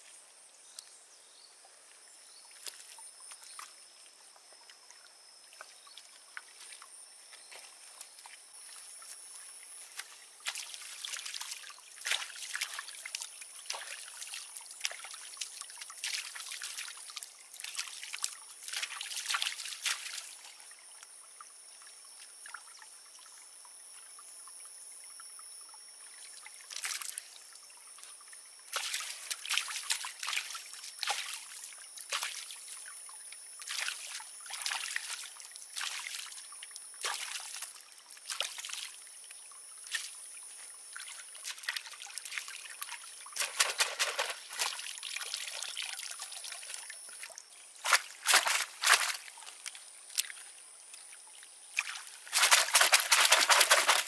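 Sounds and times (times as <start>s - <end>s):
water sloshing and splashing: 2.4s - 21.0s, 26.0s - 54.0s.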